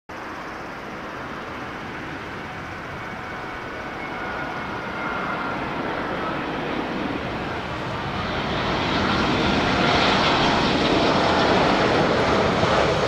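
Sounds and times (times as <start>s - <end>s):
jet engines on approach: 0.1s - 13.0s.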